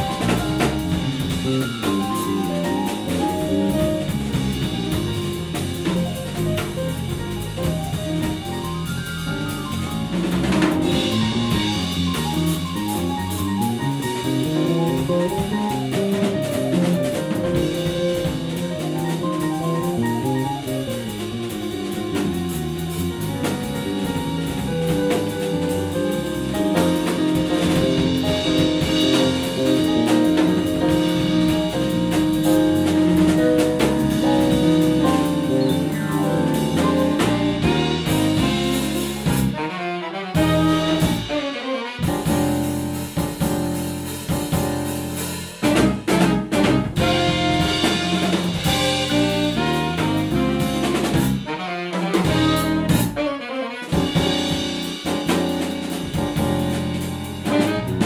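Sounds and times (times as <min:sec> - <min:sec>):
drum kit: 0:00.0 - 0:58.0
jazz band music: 0:00.0 - 0:58.0.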